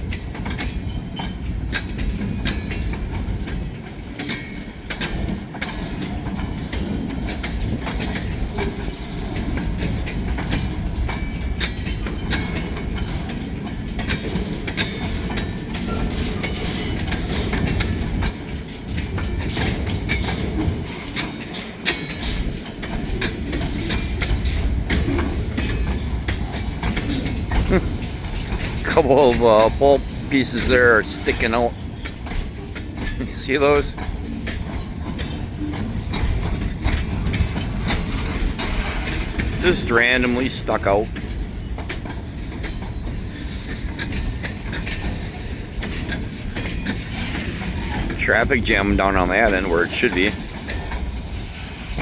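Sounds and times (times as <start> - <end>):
train wheels rumbling on rails: 0.0 - 52.0
wheels clacking over rail joints: 0.0 - 52.0.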